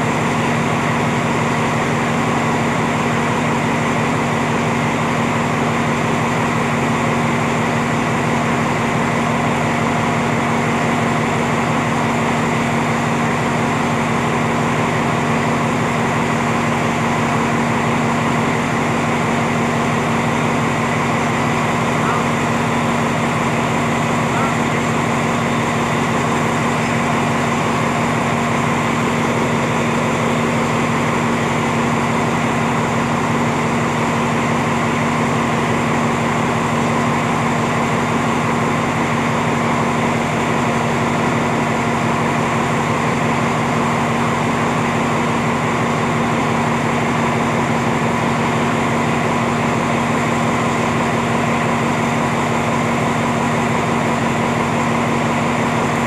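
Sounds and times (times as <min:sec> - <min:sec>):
train diesel engine idling: 0:00.0 - 0:56.0.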